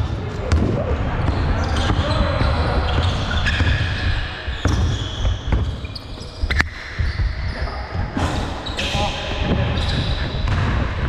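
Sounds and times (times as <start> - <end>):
basketball bouncing on court: 0.0 - 8.3, 9.4 - 11.0.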